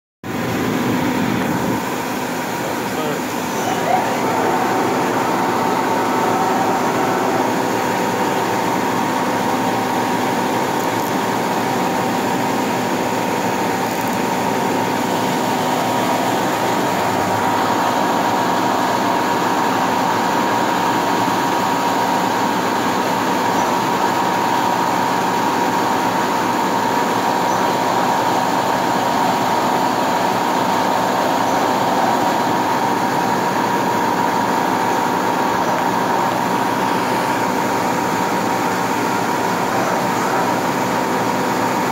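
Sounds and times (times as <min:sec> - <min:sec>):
constant high whine: 0:00.2 - 0:41.9
lathe machine noise: 0:00.3 - 0:41.9.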